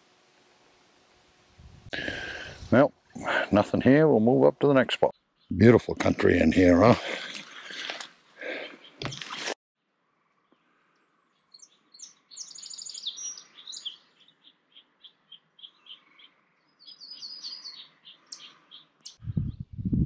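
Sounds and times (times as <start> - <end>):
songbirds chirping and trilling: 2.0 - 19.7.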